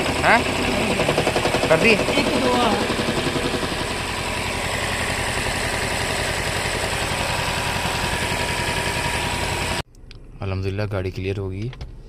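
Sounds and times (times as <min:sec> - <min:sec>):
car engine idling: 0:00.0 - 0:10.3.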